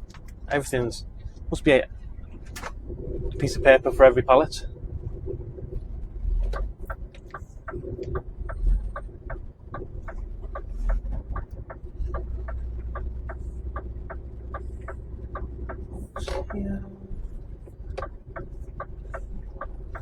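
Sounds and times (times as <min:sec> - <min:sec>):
diesel engine rumble: 0:00.0 - 0:20.0
turn signal ticking: 0:00.0 - 0:20.0.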